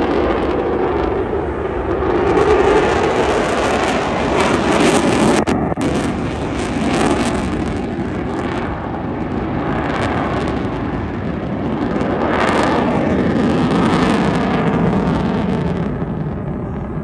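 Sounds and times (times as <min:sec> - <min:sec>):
aircraft engine flying past: 0:00.0 - 0:17.0.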